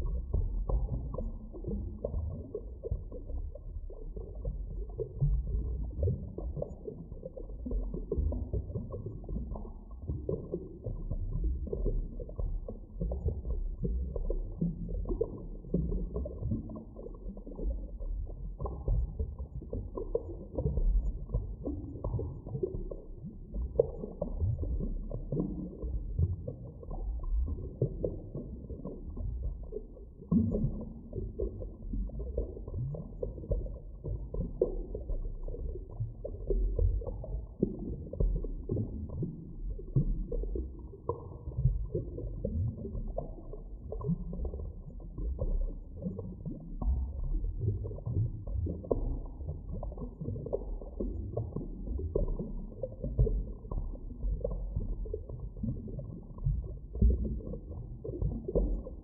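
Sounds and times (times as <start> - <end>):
underwater rumble: 0.0 - 59.0.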